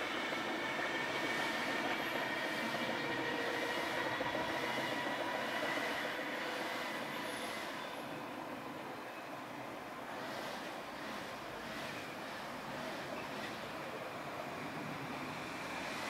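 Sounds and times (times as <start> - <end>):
electric train rumbling with whine: 0.0 - 16.0.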